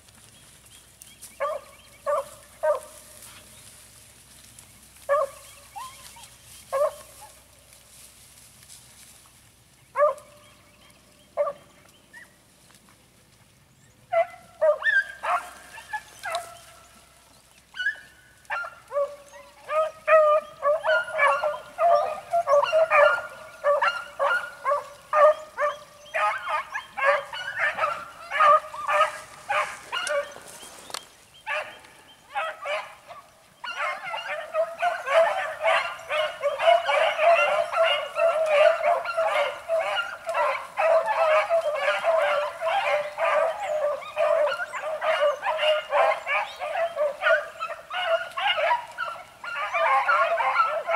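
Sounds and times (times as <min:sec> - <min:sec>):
hounds baying: 0:01.0 - 0:03.9, 0:04.5 - 0:07.6, 0:09.9 - 0:12.4, 0:14.0 - 0:50.9.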